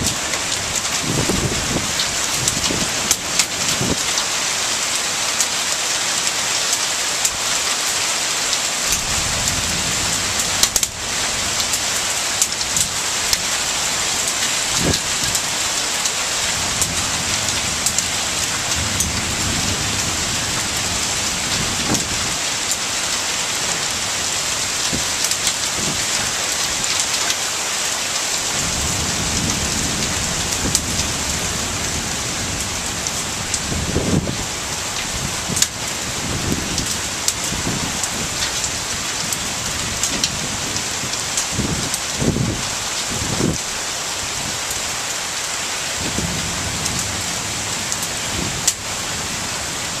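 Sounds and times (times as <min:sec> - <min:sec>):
heavy rain hissing: 0:00.0 - 0:50.0
raindrops ticking close by: 0:00.0 - 0:50.0.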